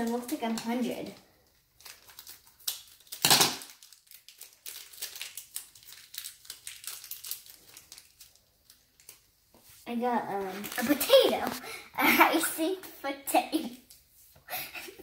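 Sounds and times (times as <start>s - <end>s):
plastic wrapper crinkling: 0.0s - 12.6s.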